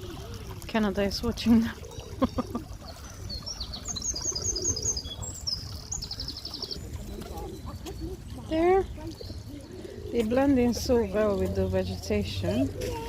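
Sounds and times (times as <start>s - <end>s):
songbird singing: 0.1s - 13.0s.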